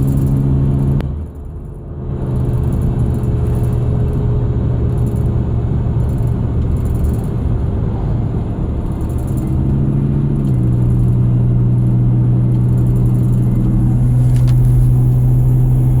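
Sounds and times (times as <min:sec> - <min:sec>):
engine rumbling: 0:00.0 - 0:16.0
engine whine: 0:00.0 - 0:16.0.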